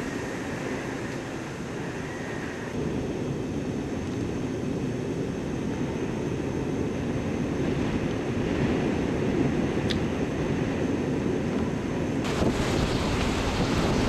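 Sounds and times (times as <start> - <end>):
wind rushing across microphone: 0.0 - 14.0.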